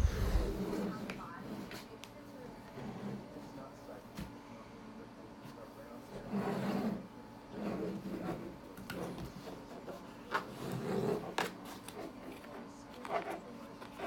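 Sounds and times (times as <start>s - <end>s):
table fan motor hum: 0.0s - 4.0s, 4.8s - 14.0s.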